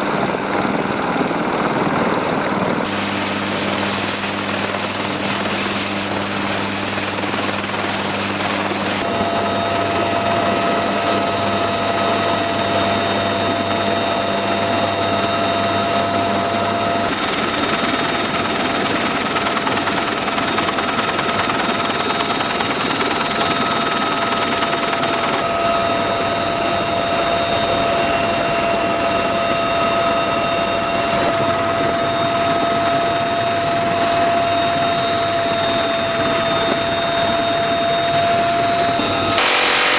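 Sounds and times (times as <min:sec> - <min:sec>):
high turbine whine: 0:00.0 - 0:17.7, 0:24.0 - 0:39.9
helicopter engines and rotor: 0:00.0 - 0:39.9.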